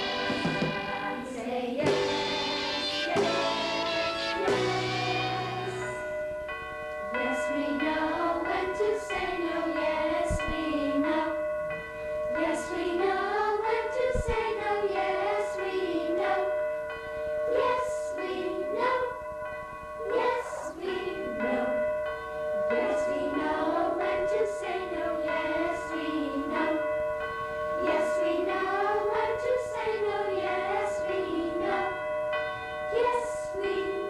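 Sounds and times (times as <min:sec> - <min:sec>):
youth choir singing: 0:00.0 - 0:06.1, 0:07.2 - 0:11.4, 0:12.4 - 0:16.6, 0:17.5 - 0:19.2, 0:20.0 - 0:21.8, 0:22.7 - 0:26.9, 0:27.8 - 0:32.0, 0:32.9 - 0:34.0
held accompaniment tones: 0:00.0 - 0:34.0.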